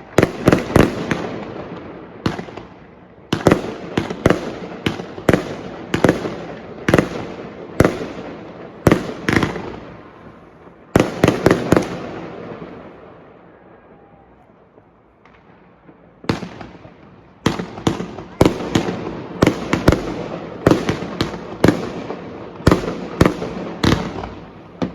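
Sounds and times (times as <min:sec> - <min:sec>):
fireworks bangs with rolling echo: 0:00.0 - 0:24.9.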